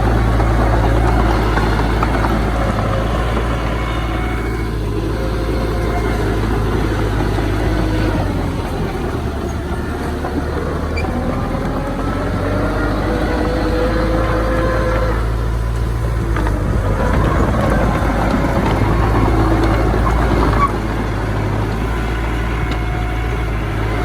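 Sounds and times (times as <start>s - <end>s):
heavy machine diesel engine: 0.0s - 24.0s.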